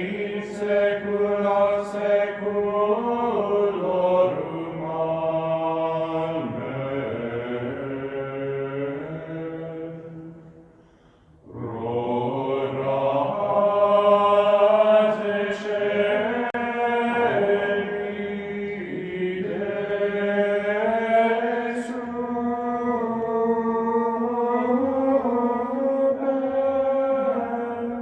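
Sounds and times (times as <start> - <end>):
choir chanting: 0.0 - 10.6, 11.5 - 28.0.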